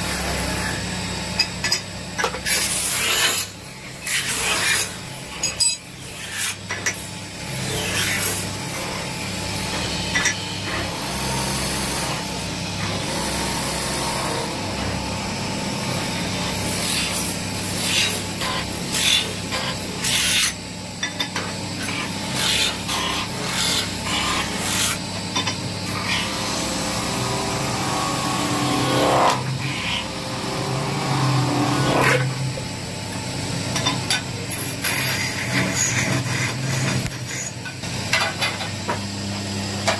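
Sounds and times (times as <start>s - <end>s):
motor hum: 0.0s - 39.9s
lathe bar rasping on metal: 2.2s - 20.6s, 21.4s - 25.3s, 25.9s - 32.4s, 33.8s - 37.7s.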